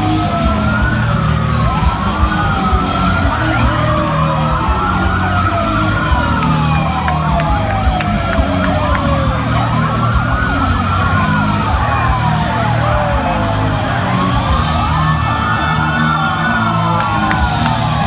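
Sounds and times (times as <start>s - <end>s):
police sirens wailing: 0.0s - 18.0s.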